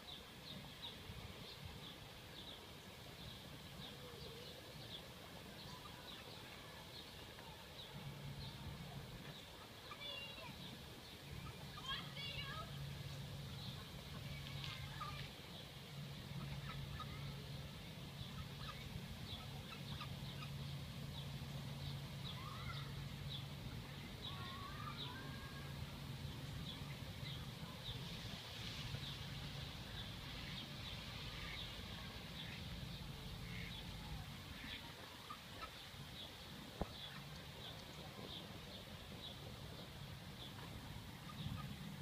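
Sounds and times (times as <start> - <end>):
birds chirping: 0.0 - 42.0
steady low hum: 0.0 - 42.0.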